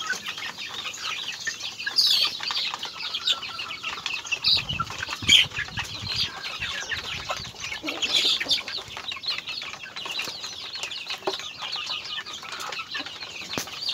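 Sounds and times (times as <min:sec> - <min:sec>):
chickens clucking: 0:00.0 - 0:13.9.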